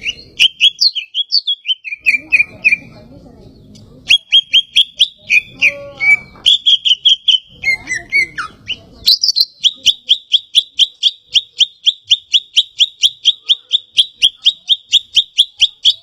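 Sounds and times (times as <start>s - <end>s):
bird singing: 0.0s - 16.0s.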